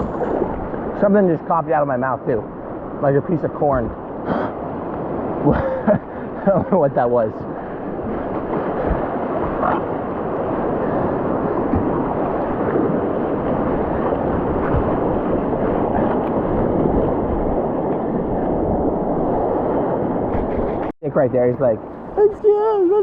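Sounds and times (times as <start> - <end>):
creek water rushing: 0.0 - 20.9.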